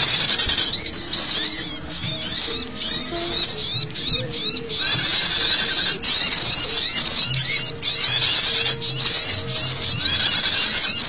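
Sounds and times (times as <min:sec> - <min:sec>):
low steady notes: 0:00.0 - 0:11.0
small songbirds chirping: 0:00.0 - 0:11.0.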